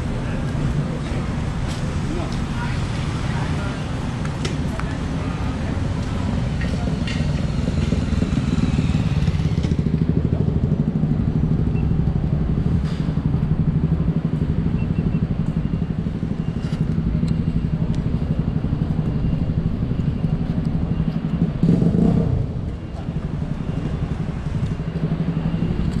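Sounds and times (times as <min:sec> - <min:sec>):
motor vehicle engines humming: 0:00.0 - 0:26.0.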